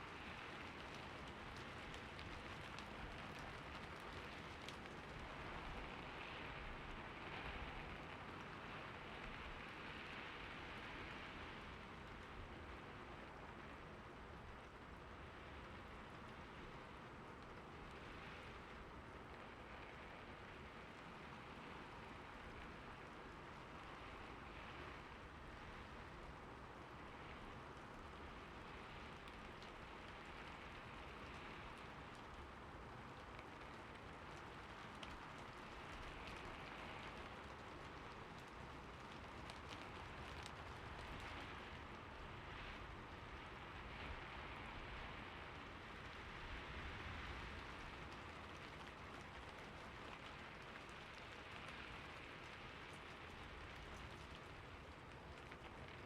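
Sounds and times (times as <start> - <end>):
gentle rainfall: 0.0 - 56.0.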